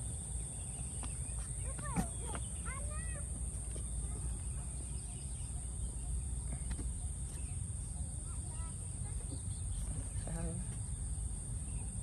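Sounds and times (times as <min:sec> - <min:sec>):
faint chirps and ticks: 0:00.4 - 0:12.0.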